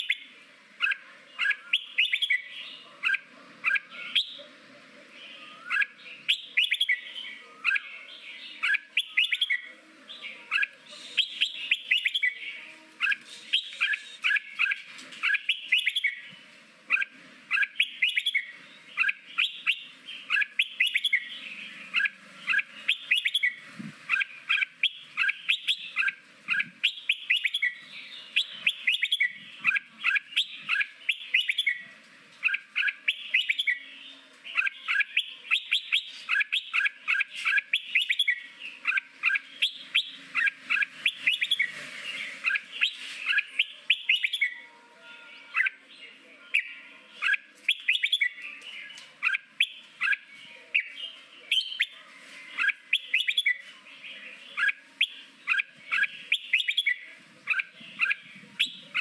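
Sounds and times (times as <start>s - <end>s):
bird whistling song: 0.0s - 4.4s, 5.3s - 7.9s, 8.5s - 9.7s, 10.5s - 16.3s, 16.9s - 31.8s, 32.4s - 33.8s, 34.5s - 44.7s, 46.5s - 52.0s, 52.6s - 53.7s, 54.5s - 59.0s.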